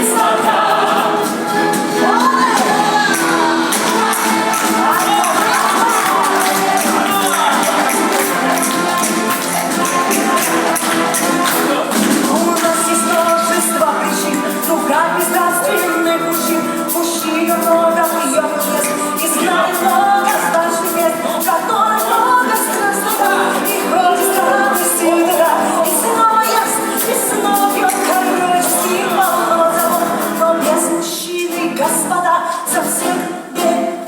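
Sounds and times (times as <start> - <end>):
quick bright percussion beat: 0.0 - 30.9
person singing: 0.0 - 34.0.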